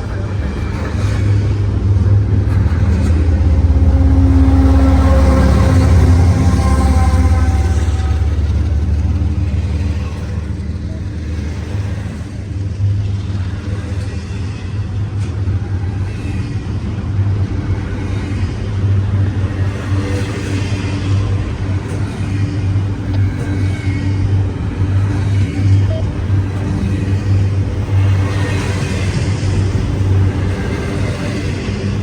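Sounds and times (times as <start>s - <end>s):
freight train rumbling past: 0.0s - 32.0s.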